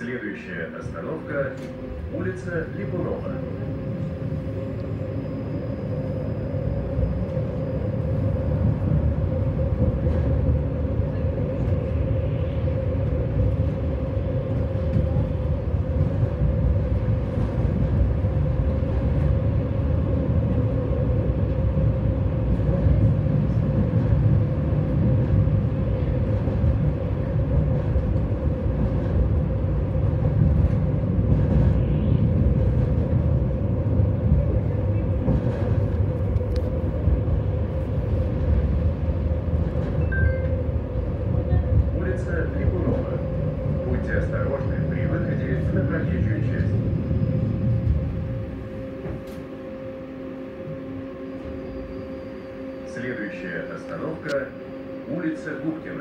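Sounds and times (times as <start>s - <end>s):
constant hum: 0.0s - 56.0s
tram wheels rumbling on rails: 0.0s - 56.0s.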